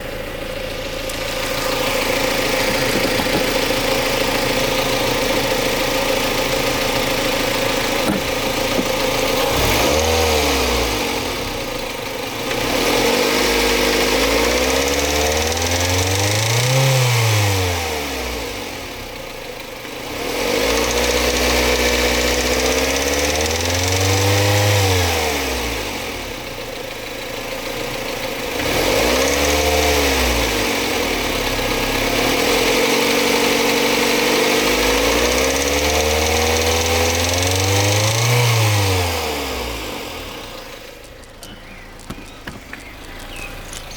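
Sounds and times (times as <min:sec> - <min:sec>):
car engine idling and revving: 0:00.0 - 0:43.9
engine rattle: 0:00.0 - 0:43.9.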